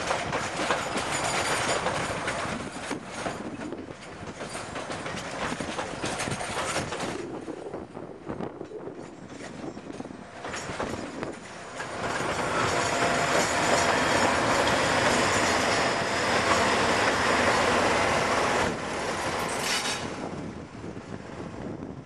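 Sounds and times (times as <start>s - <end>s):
train wheels running on rails: 0.0s - 22.0s.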